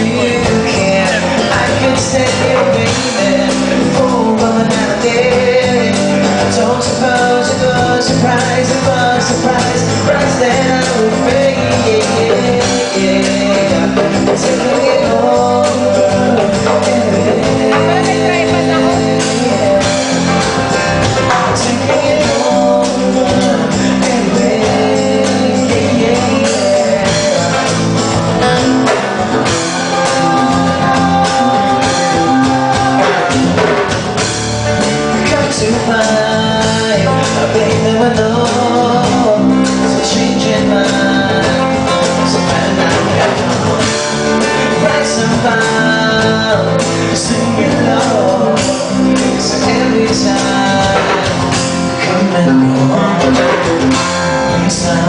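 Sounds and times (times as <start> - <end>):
gliding lead melody: 0.0 - 52.0
bass guitar: 0.0 - 55.0
drums: 0.0 - 55.0
guitars: 0.0 - 55.0.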